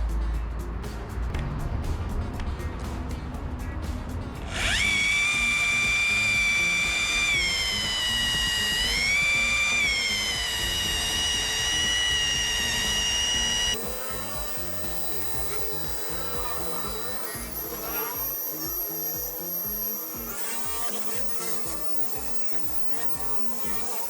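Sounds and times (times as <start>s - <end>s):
rotary polisher whining: 4.5s - 24.0s.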